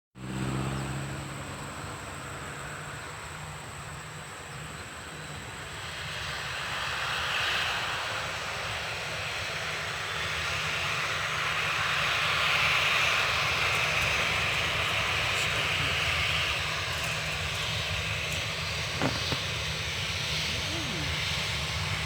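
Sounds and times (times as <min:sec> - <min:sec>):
airplane engine rushing: 0:00.2 - 0:22.0.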